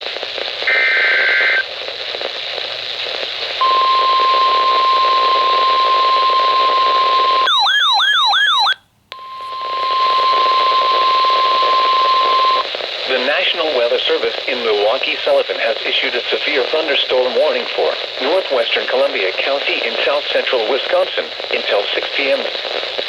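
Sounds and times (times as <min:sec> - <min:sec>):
static hiss: 0:00.0 - 0:07.6, 0:08.6 - 0:23.0.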